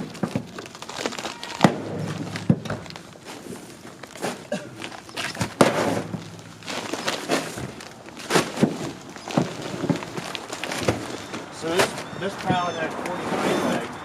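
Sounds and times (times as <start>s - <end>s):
heavy bags thudding: 0.0s - 13.9s
bags rustling: 0.0s - 14.0s.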